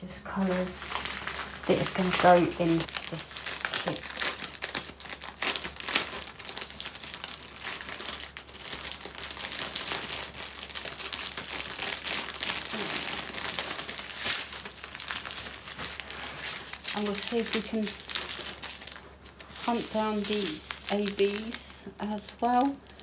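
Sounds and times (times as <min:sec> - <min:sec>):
plastic bags crinkling: 0:00.1 - 0:23.0.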